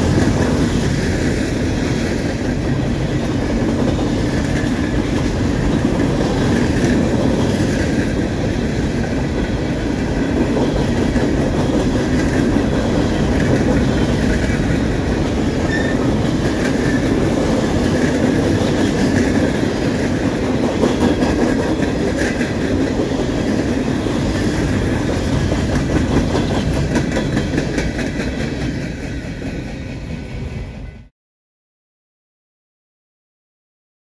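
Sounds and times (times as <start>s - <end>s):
train rumbling past: 0.0s - 31.1s.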